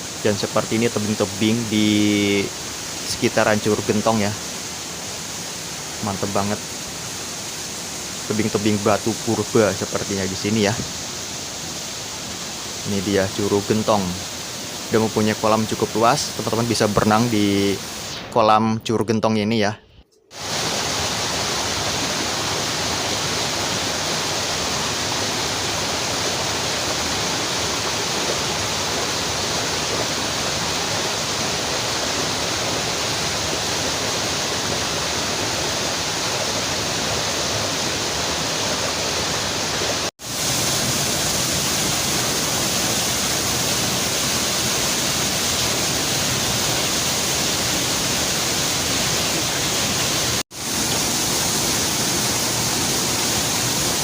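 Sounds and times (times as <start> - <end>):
waterfall rushing: 0.0 - 18.3, 20.3 - 54.0.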